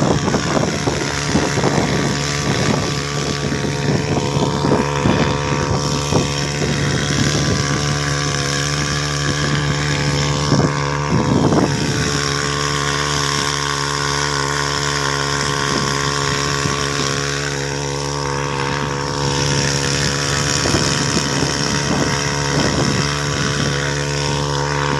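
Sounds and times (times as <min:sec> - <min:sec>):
small boat engine running: 0:00.0 - 0:24.9.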